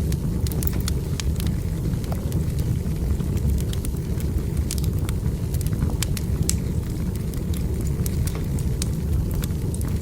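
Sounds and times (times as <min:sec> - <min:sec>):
burning logs crackling and popping: 0:00.0 - 0:10.0
fire rumbling: 0:00.0 - 0:10.0.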